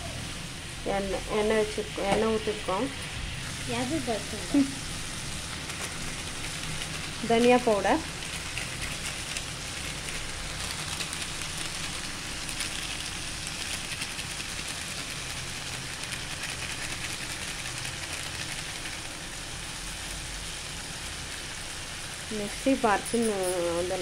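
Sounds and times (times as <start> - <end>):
onions frying in oil: 0.0 - 24.0.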